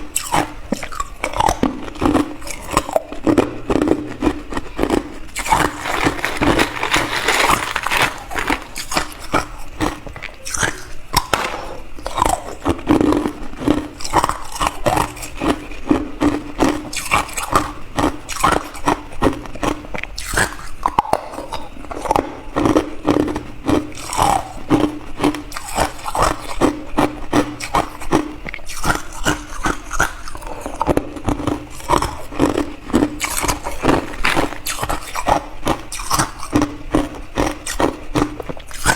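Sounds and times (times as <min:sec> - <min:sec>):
ice crunching as chewed: 0:00.0 - 0:11.4, 0:12.0 - 0:38.9.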